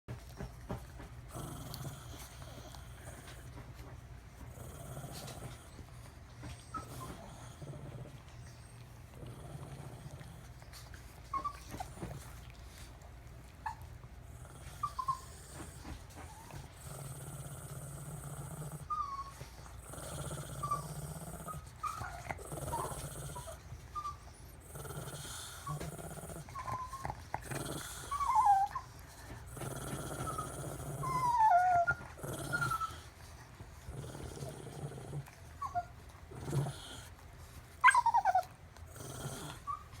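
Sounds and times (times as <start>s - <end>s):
dogs whining: 4.6s - 12.5s, 13.5s - 17.5s, 18.2s - 40.0s.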